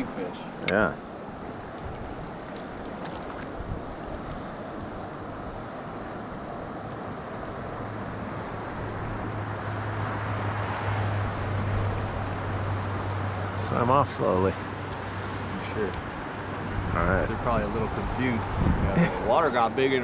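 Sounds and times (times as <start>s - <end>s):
fast-flowing river: 0.0s - 20.0s.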